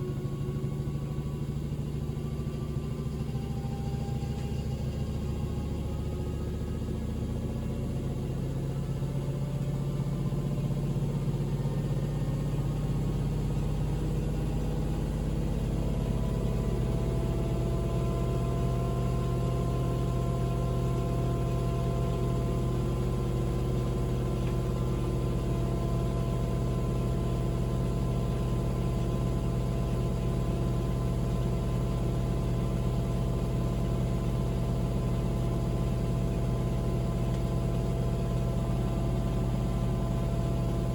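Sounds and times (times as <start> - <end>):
washing machine running: 8.1 - 40.9.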